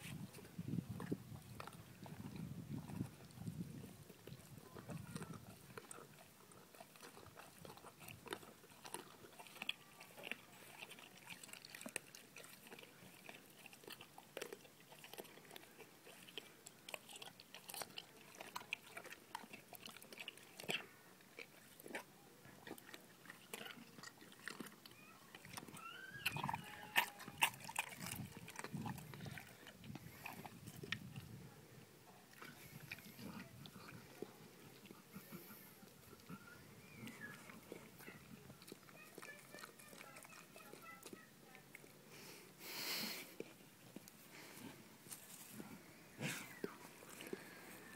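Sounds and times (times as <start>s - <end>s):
dog chewing wet biting: 0.1s - 31.4s, 32.1s - 42.0s, 46.3s - 47.9s.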